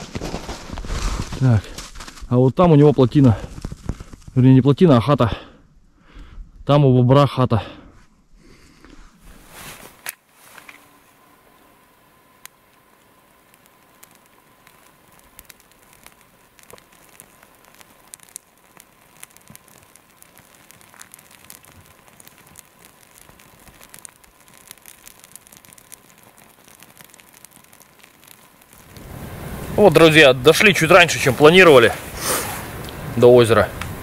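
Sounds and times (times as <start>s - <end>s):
kindling crackling and snapping: 0.0s - 6.8s, 7.7s - 34.0s.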